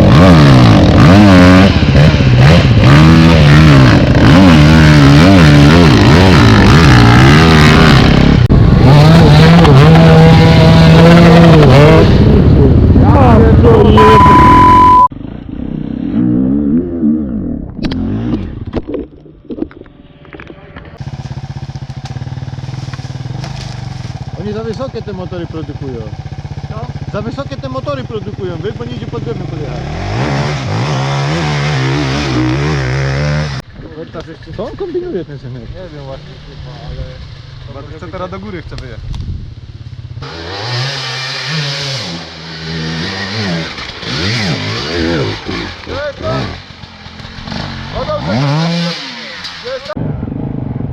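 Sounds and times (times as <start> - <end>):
dirt bike engine revving: 0.0 - 18.6, 21.0 - 33.6, 39.9 - 50.7.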